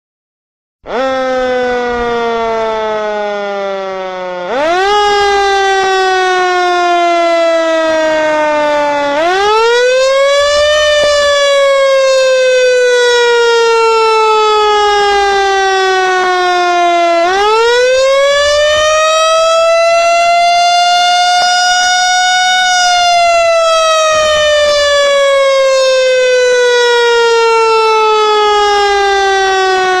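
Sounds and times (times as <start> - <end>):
siren wailing: 0.8 - 30.0.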